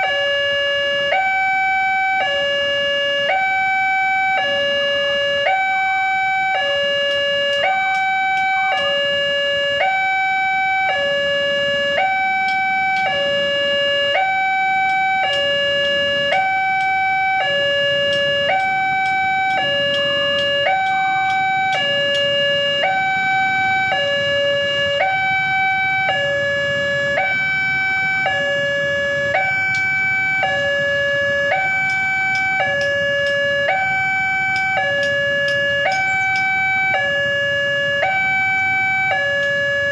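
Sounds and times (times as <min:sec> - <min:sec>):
two-tone warning alarm: 0:00.0 - 0:39.9.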